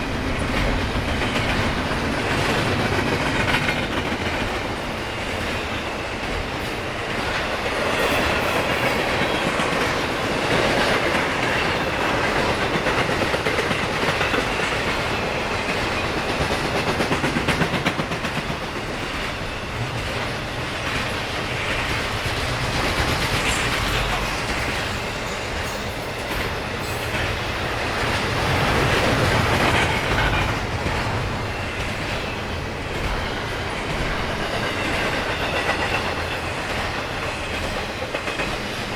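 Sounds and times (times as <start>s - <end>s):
freight train cars rolling: 0.0s - 38.9s.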